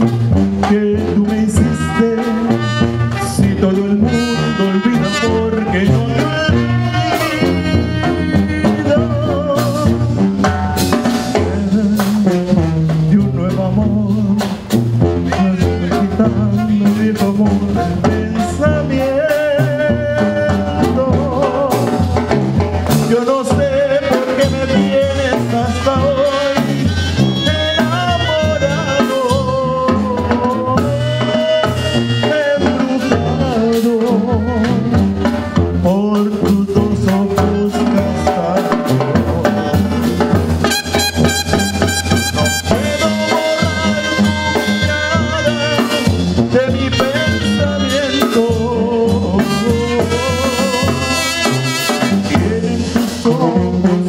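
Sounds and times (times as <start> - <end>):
trumpets and clarinets melody: 0.0 - 22.2, 22.8 - 54.0
brass band playing dance tune: 0.0 - 54.0
sousaphone bass: 0.0 - 54.0
steady drum beat: 0.0 - 54.0.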